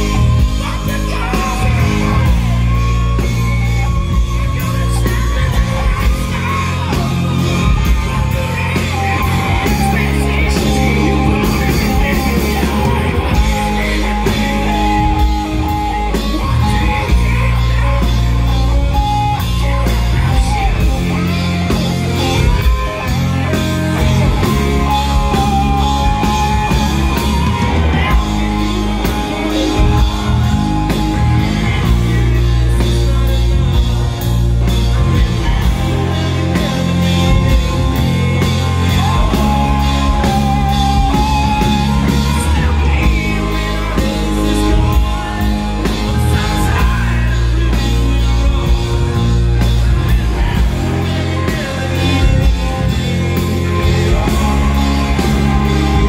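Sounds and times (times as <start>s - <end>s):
electric guitar leading: 0.0s - 56.0s
loud rock band playing: 0.0s - 56.0s.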